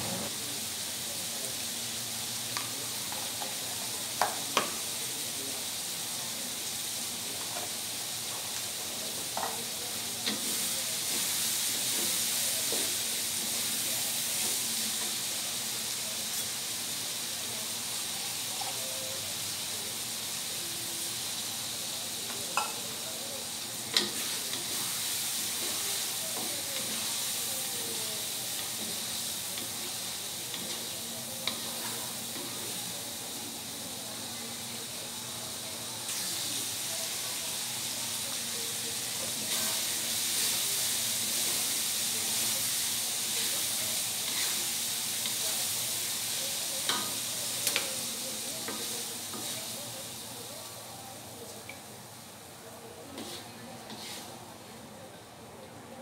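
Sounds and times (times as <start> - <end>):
squid sizzling in a wok: 0.0 - 56.0.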